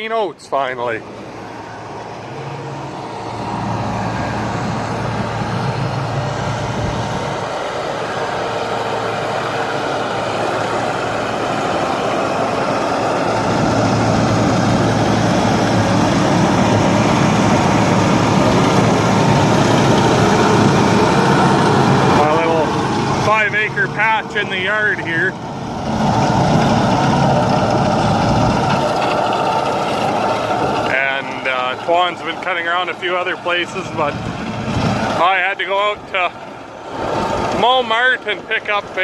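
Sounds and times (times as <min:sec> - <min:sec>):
farm machine engine running: 0:00.0 - 0:39.0.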